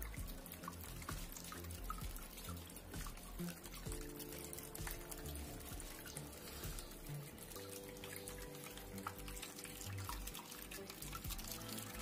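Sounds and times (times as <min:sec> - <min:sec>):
faint music with held notes: 0:00.0 - 0:12.0
fountain water trickling and splashing: 0:00.0 - 0:12.0.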